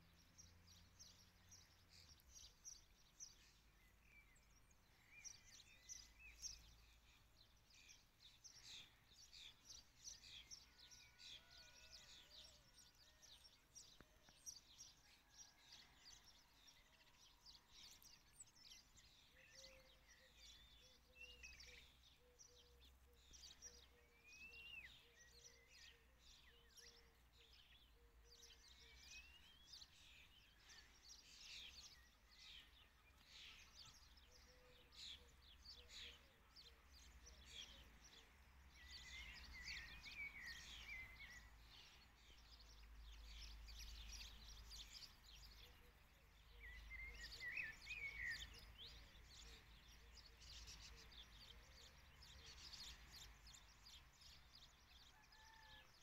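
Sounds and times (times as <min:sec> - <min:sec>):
songbirds chirping and twittering: 0:00.0 - 0:56.0.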